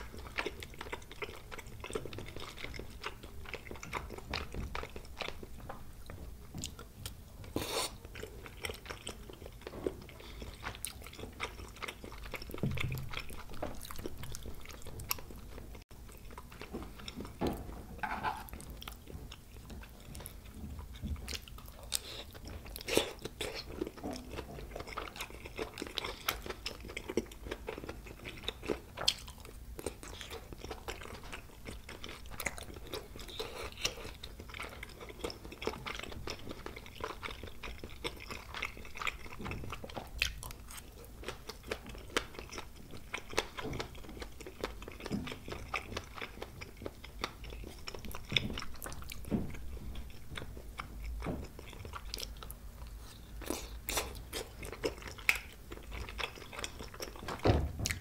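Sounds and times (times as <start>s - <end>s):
person chewing: 0.0s - 17.4s, 18.0s - 58.0s.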